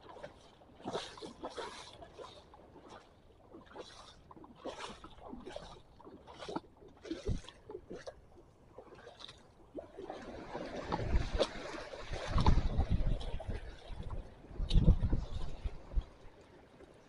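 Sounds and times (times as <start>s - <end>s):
seawater splashing on shore: 0.0s - 16.4s.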